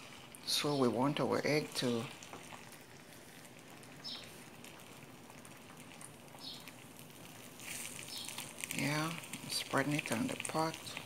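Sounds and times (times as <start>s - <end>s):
eggs sizzling in oil: 0.0s - 11.0s.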